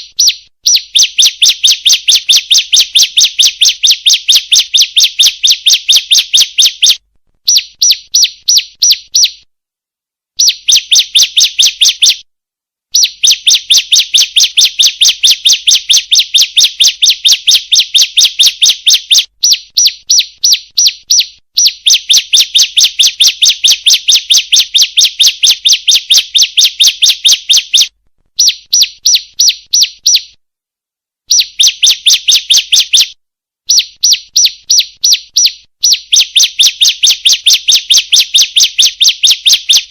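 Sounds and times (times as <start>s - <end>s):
bird rapid high chirps: 0.0s - 9.5s, 10.4s - 12.2s, 12.9s - 30.4s, 31.3s - 39.9s.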